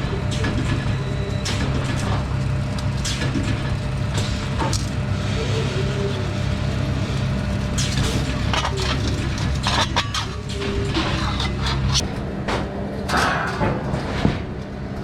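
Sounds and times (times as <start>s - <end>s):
machine humming and hissing: 0.0s - 13.4s.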